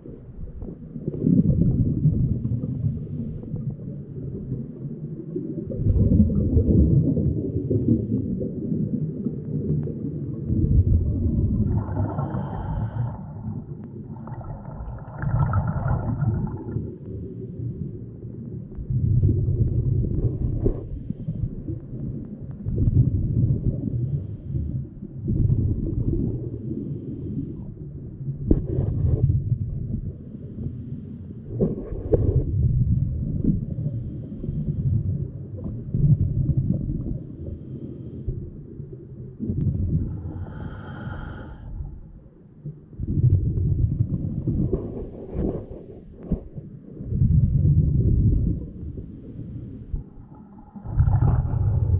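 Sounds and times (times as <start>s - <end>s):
faintly pitched underwater sound: 0.0s - 51.9s
muffled underwater rumble: 0.0s - 51.9s.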